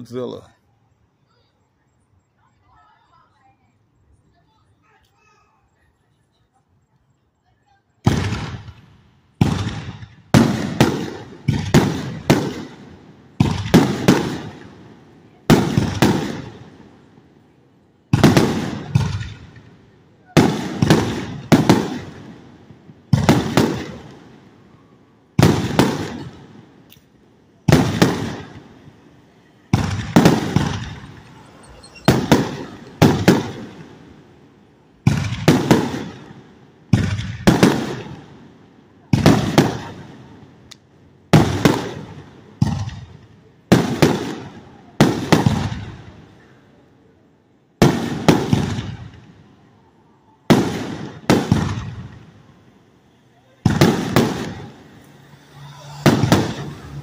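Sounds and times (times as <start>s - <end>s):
fireworks bangs with rumbling tails: 8.0s - 57.0s.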